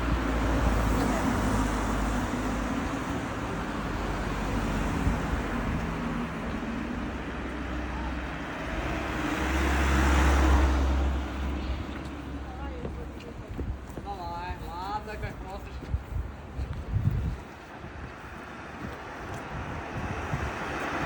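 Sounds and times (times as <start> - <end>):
car passing on road: 0.0 - 21.0
outdoor noise rush: 0.0 - 21.0.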